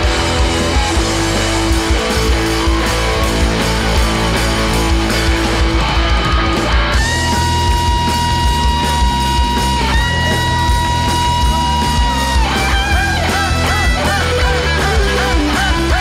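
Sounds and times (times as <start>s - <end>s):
bass guitar: 0.0s - 16.0s
drums: 0.0s - 16.0s
lead electric guitar: 0.0s - 16.0s.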